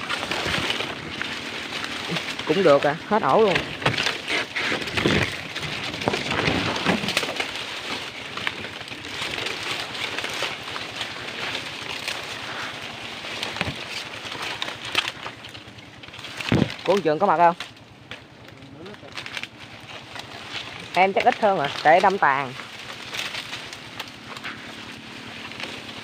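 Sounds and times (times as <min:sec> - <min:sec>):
clothing brushing leaves: 0:00.0 - 0:26.0
dry leaves rustling and snapping: 0:00.0 - 0:26.0.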